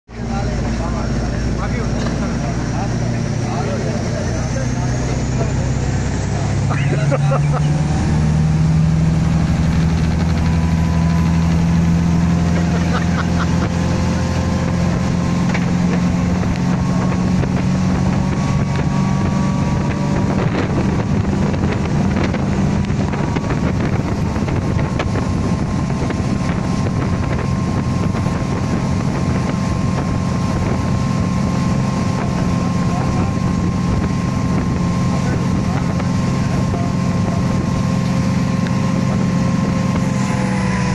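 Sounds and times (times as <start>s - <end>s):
motorboat engine running: 0.1s - 40.9s
wind buffeting microphone: 0.1s - 40.9s.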